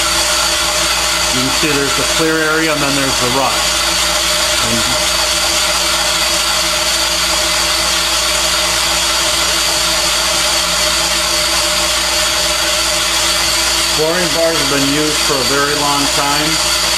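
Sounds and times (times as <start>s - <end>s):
boring bar motor whining: 0.0s - 16.9s.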